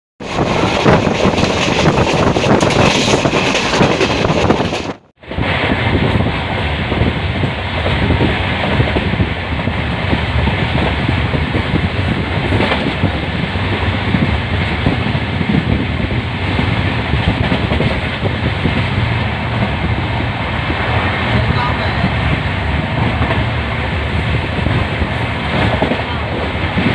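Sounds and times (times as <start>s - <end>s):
train wheels rumbling and clattering: 0.2s - 26.9s.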